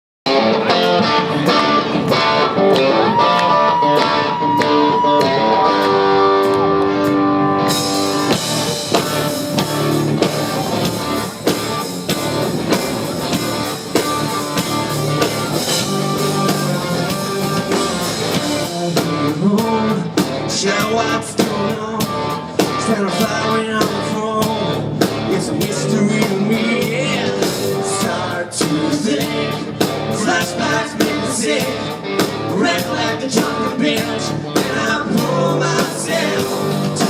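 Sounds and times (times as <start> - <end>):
country rock band playing: 0.3 - 37.0.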